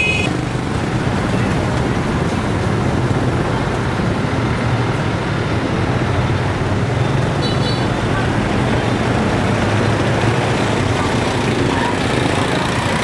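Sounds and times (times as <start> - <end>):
mopeds and motorbikes passing: 0.0 - 13.0.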